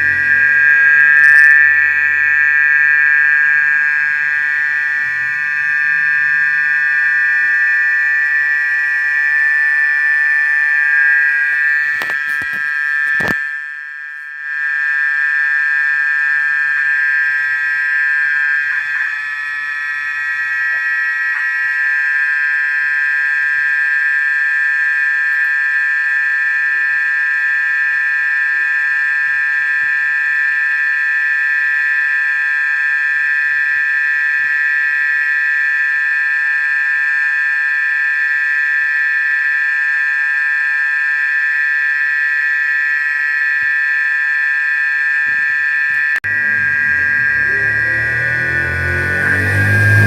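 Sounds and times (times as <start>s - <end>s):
high-pitched buzzing drone: 0.0s - 50.0s.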